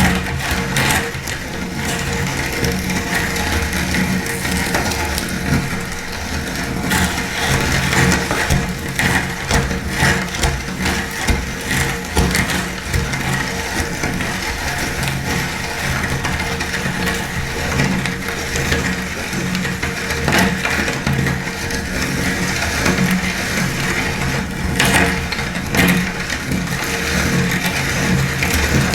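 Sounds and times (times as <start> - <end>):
electric meat grinder running: 0.0 - 28.9
food crunching in grinder: 0.0 - 28.9.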